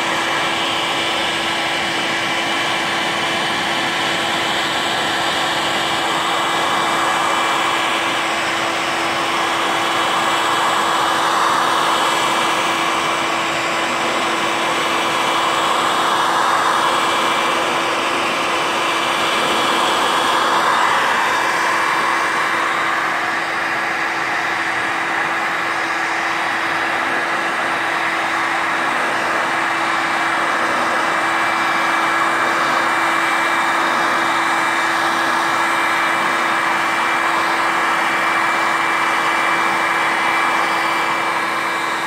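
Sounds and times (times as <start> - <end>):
heat gun blowing: 0.0 - 42.0.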